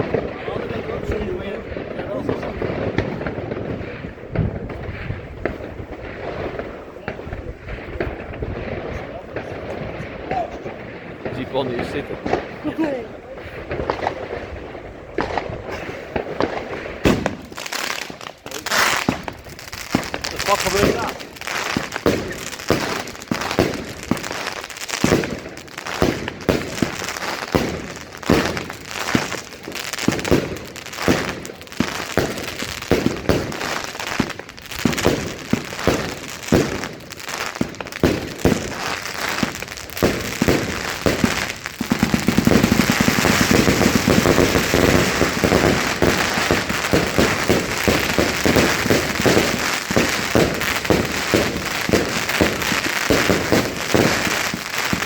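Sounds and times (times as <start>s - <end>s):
firework bangs: 0.0s - 55.0s
rapid rattle of firework reports: 0.0s - 55.0s.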